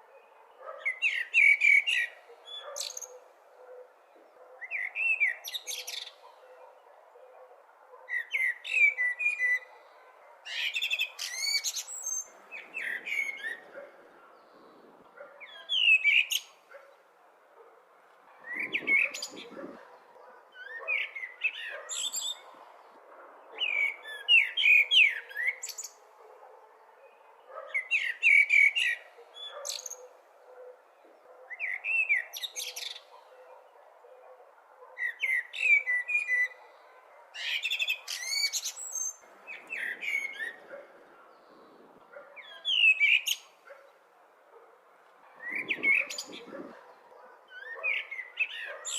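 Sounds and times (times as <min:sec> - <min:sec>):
blackbird singing: 0:00.0 - 0:17.0, 0:18.4 - 0:22.6, 0:23.4 - 0:26.0, 0:27.0 - 0:34.3, 0:34.9 - 0:43.9, 0:45.4 - 0:48.9.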